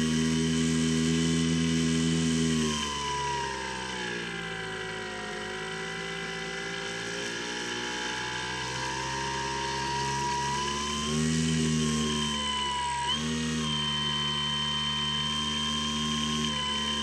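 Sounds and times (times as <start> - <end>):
electric motor and propeller whine: 0.0 - 17.0.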